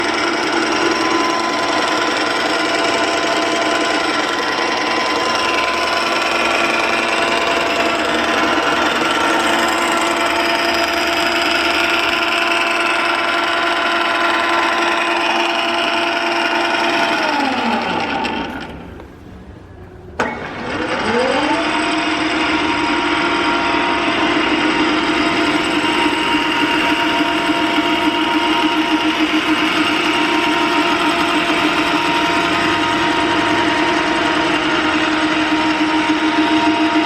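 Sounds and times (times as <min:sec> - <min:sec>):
lathe spindle winding down: 0:00.0 - 0:19.2, 0:20.2 - 0:37.0
metal lathe running: 0:00.0 - 0:19.3, 0:20.1 - 0:37.0.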